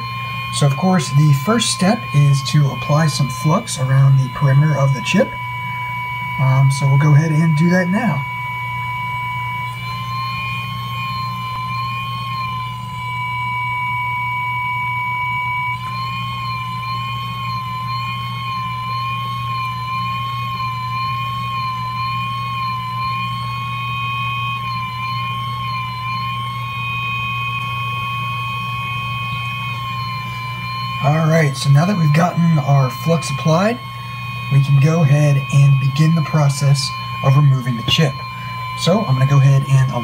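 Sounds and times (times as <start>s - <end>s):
electric fan motor whining: 0.0s - 40.0s.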